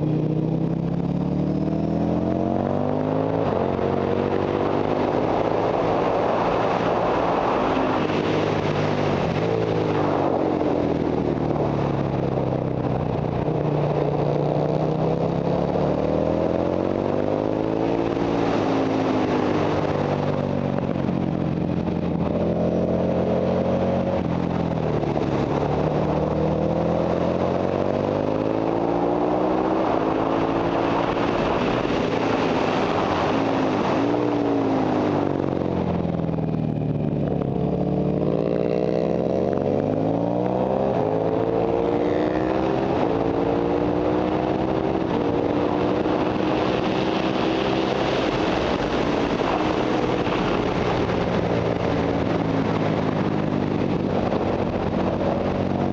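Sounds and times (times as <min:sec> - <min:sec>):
motorcycle engine accelerating: 0:00.0 - 0:55.9
wind noise on microphone: 0:00.0 - 0:55.9.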